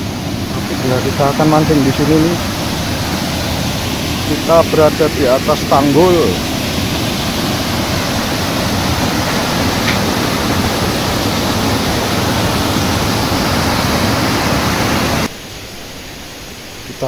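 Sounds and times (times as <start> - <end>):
water rushing over a weir: 0.0 - 17.0.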